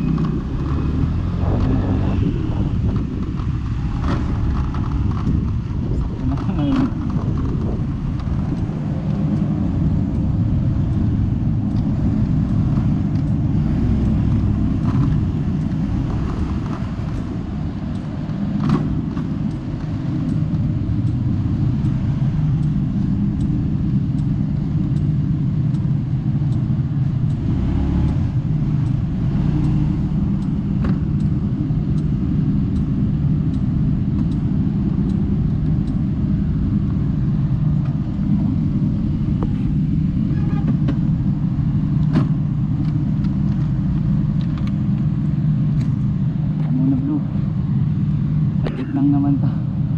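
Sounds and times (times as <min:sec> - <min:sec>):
scooter engine rumbling: 0:00.0 - 0:49.0
road noise: 0:00.0 - 0:49.9.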